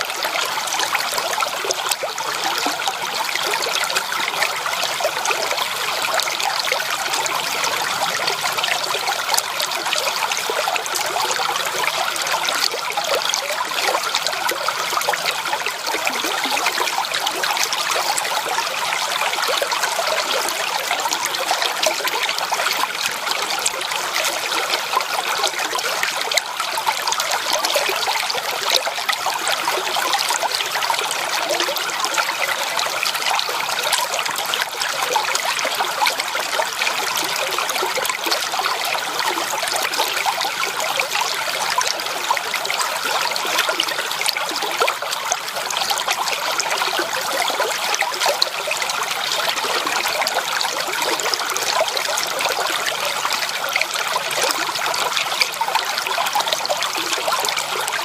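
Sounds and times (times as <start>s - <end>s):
creek water babbling over stones: 0.0s - 58.0s.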